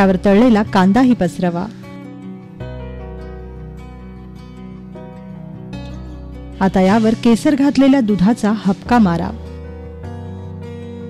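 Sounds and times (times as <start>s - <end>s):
instrumental music sustained notes: 0.0s - 11.0s.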